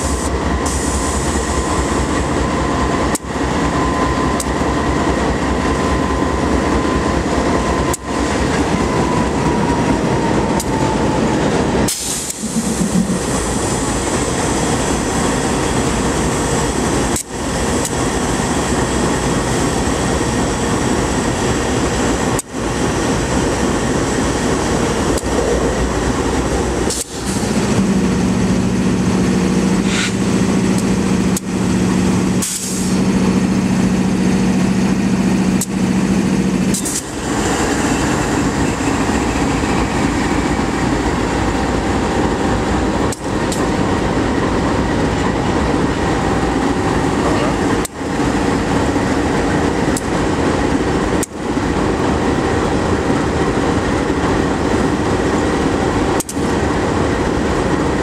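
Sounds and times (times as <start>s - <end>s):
train cars rumbling on rails: 0.0s - 58.0s.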